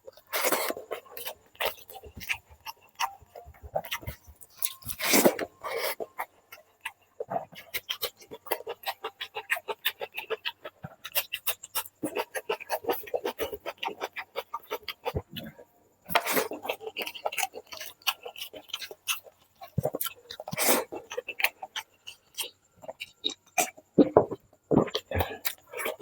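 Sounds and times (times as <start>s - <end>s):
wet chewing clicks and smacks: 0.1s - 26.0s.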